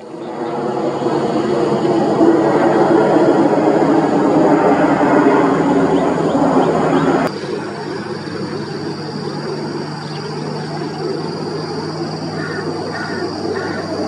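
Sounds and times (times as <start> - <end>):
engine drone with high whine: 0.0 - 14.0.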